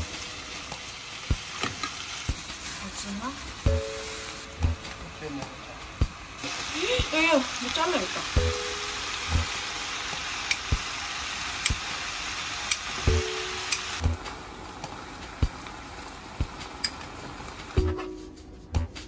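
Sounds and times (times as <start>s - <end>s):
light background music: 0.0s - 12.1s, 12.7s - 19.0s
food sizzling in a frying pan: 0.0s - 18.3s.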